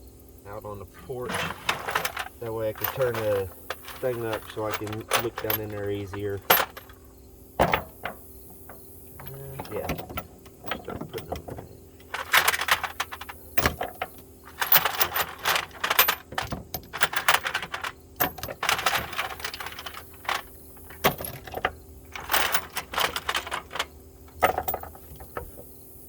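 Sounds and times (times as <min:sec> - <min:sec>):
metal sockets clinking: 0:01.2 - 0:25.7.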